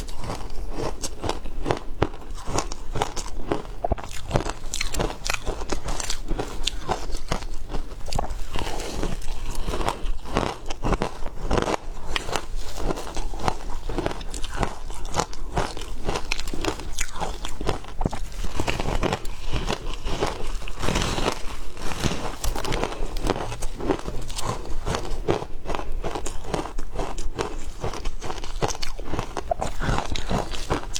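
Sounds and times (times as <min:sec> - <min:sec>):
person chewing shaved ice: 0:00.0 - 0:30.9.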